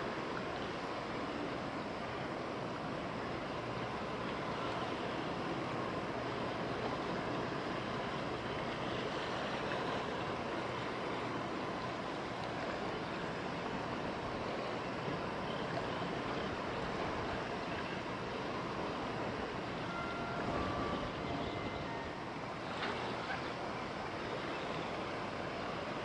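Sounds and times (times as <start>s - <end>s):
boat engine rushing: 0.0s - 26.0s
churned water: 0.0s - 26.0s.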